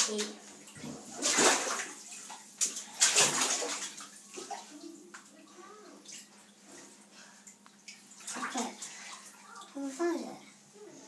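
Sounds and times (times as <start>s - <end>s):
bathwater sloshing and splashing: 0.0s - 10.7s.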